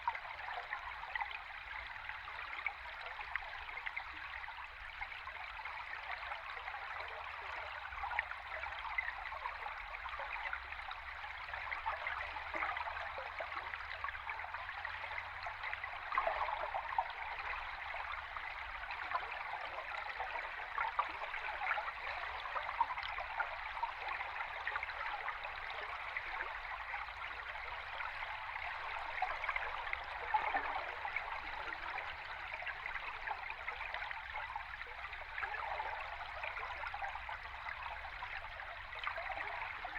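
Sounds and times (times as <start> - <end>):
underwater river noise: 0.0 - 39.9.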